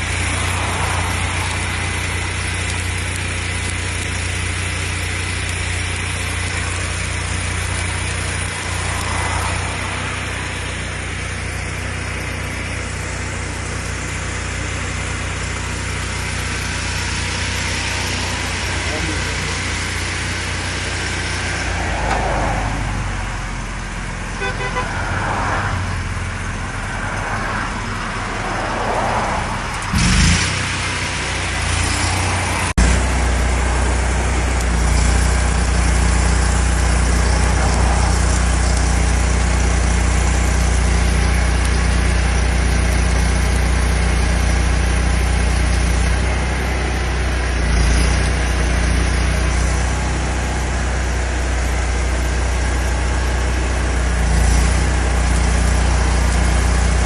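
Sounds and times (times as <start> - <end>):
engine running nearby: 0.0 - 57.0
highway traffic passing: 0.0 - 57.0.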